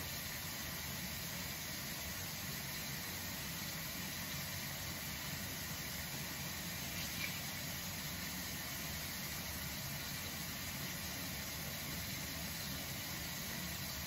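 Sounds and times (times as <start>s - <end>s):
hiss: 0.0s - 14.0s.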